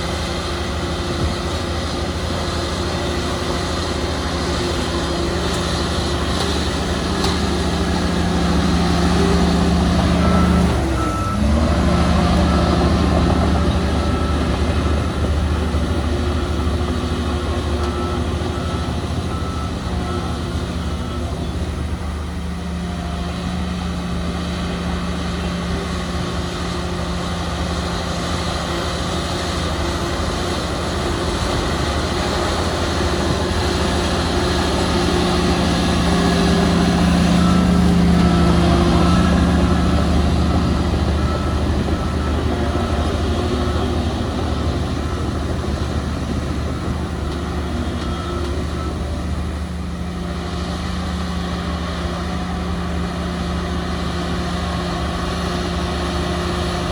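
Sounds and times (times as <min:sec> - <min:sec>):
heavy diesel machinery running: 0:00.0 - 0:56.9
faint reversing alarm beep: 0:00.2 - 0:56.9.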